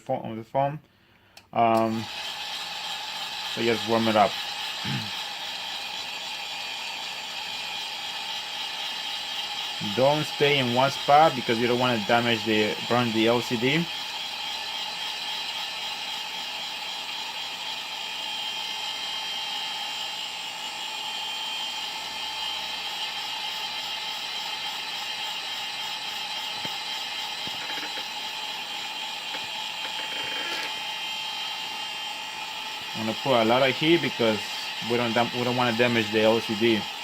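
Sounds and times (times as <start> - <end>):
hot-air tool fan whine: 0.9 - 37.0.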